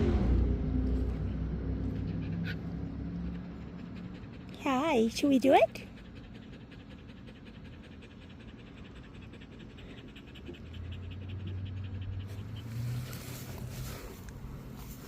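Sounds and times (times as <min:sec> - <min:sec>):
low steady hum: 0:00.0 - 0:15.0
dog panting: 0:01.2 - 0:15.0.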